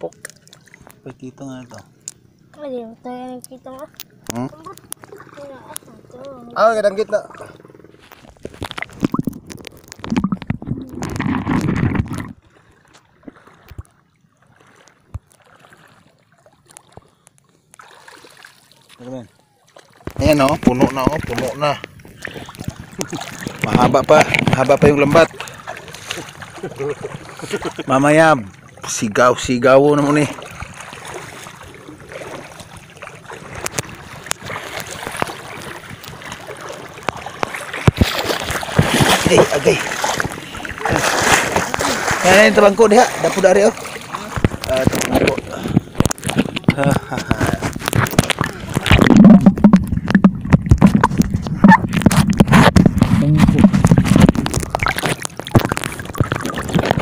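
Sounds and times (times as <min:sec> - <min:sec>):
seawater sloshing and gurgling: 0:00.0 - 0:57.0.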